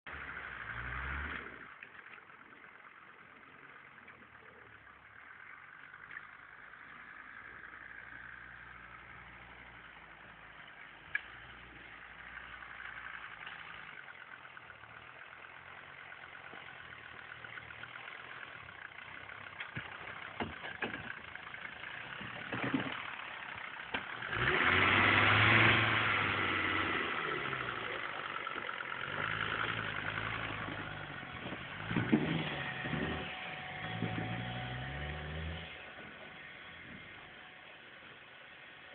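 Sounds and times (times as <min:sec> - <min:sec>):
off-road vehicle engine revving: 0:00.1 - 0:38.9.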